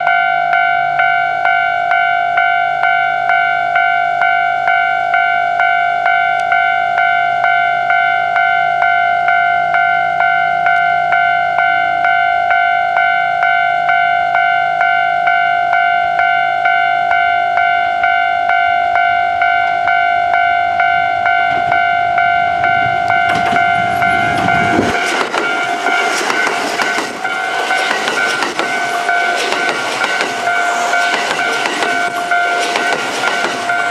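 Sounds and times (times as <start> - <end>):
level-crossing bell ringing: 0.0 - 33.9
train wheel and rail noise: 0.0 - 33.9.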